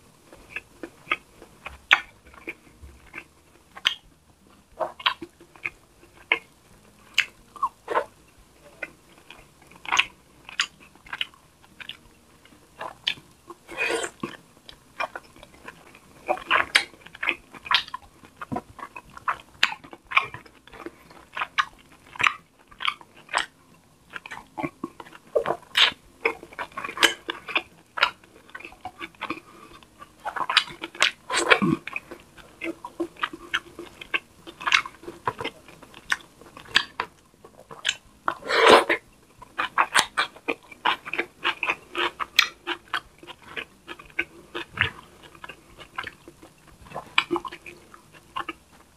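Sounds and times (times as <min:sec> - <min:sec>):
person chewing: 0:00.0 - 0:48.9
soft mouth clicks: 0:00.3 - 0:08.2, 0:08.8 - 0:48.6.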